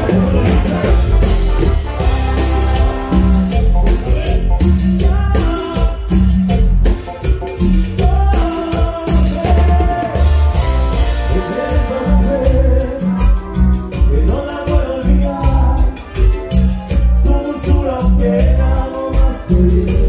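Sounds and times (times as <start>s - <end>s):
lead singer singing: 0.0s - 3.4s, 4.0s - 6.4s, 8.0s - 16.4s, 17.0s - 20.0s
drum kit beat: 0.0s - 20.0s
electric bass: 0.0s - 20.0s
live band playing latin dance music: 0.0s - 20.0s.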